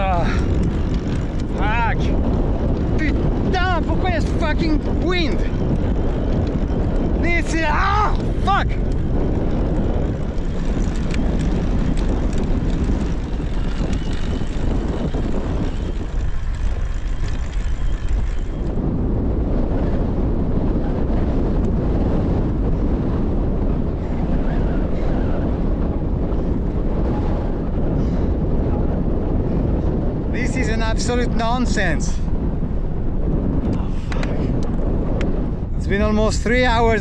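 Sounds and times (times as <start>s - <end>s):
wind noise on microphone: 0.0s - 37.0s.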